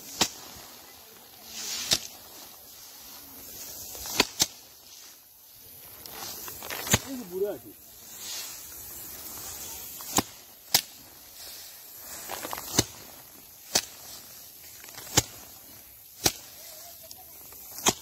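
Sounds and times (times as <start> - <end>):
rice stalks whacking the ground: 0.0 - 18.0
rustle of stalks: 0.0 - 18.0.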